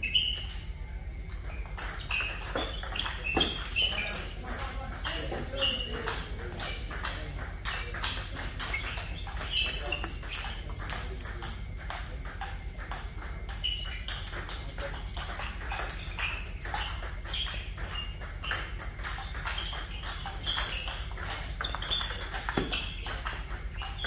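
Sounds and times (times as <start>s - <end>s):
table tennis balls clicking: 0.1s - 24.0s.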